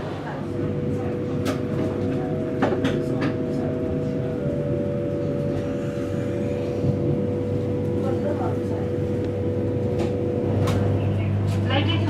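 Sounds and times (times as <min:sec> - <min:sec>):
train carriage rumble: 0:00.0 - 0:12.0
two-tone hum: 0:00.0 - 0:12.0.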